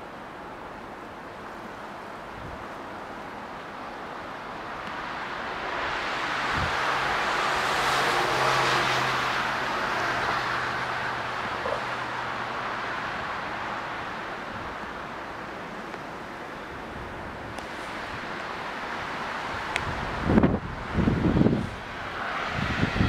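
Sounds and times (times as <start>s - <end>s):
car passing: 3.8s - 23.0s.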